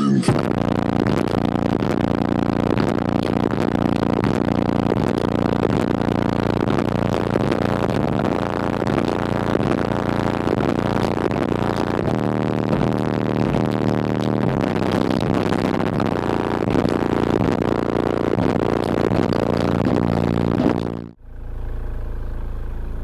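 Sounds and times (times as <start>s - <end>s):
subwoofer droning bass buzz: 0.0s - 23.0s.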